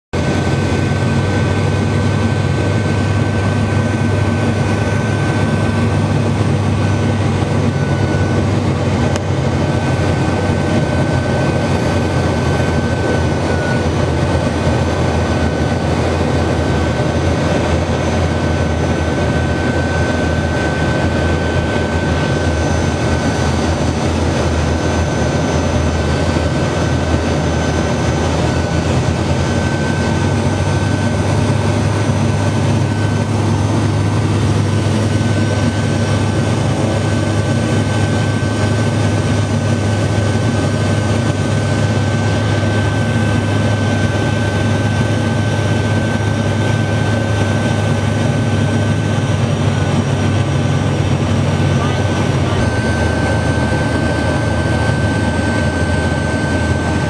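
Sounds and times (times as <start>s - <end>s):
steady high whine: 0.1s - 57.0s
turboprop engines droning: 0.1s - 57.0s.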